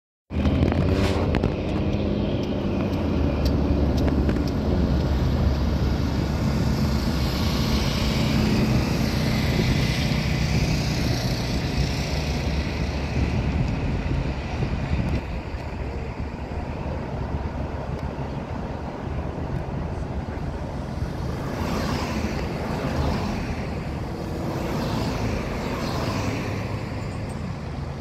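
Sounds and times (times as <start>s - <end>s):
car engine and tyre noise: 0.3s - 28.0s.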